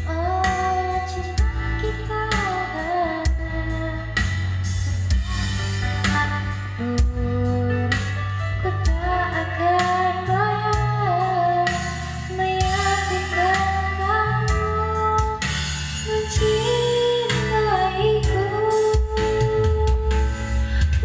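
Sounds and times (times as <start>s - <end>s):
backing track with bass line: 0.0s - 21.0s
woman singing karaoke: 0.0s - 21.0s.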